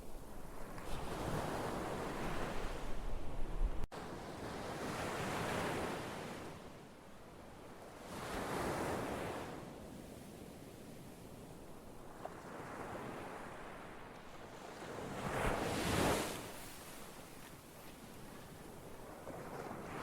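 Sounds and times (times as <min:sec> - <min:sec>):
low rumble of surf: 0:00.0 - 0:20.0
waves breaking and washing in: 0:00.0 - 0:20.0.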